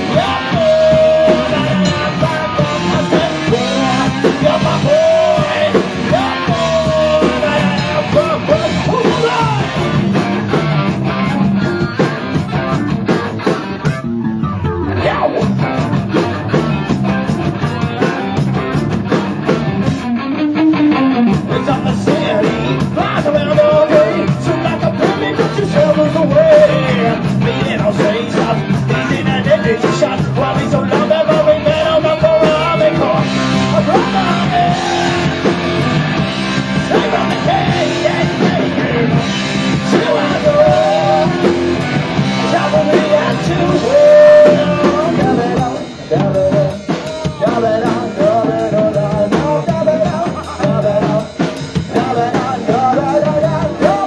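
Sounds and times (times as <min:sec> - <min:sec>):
live rock-funk band playing: 0:00.0 - 0:54.0.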